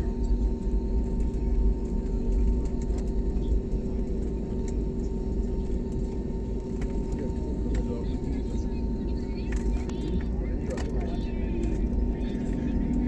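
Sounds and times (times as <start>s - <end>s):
airliner cabin rumble: 0.0s - 13.0s
constant hum: 0.0s - 13.0s.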